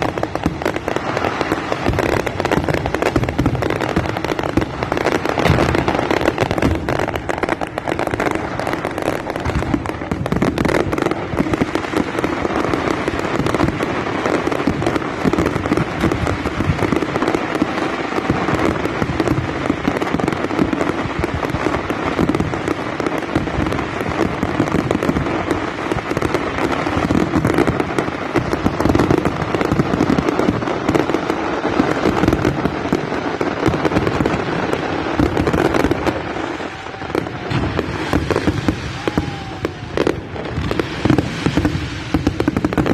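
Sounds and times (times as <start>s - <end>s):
fireworks popping: 0.0s - 42.9s.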